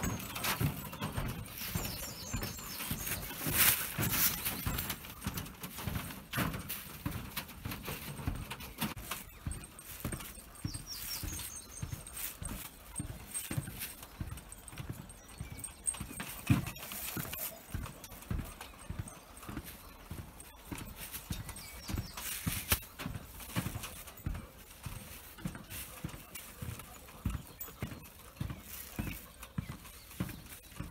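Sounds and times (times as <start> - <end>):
footsteps on wooden boardwalk: 0.0 - 30.9
small birds chirping: 0.0 - 30.9.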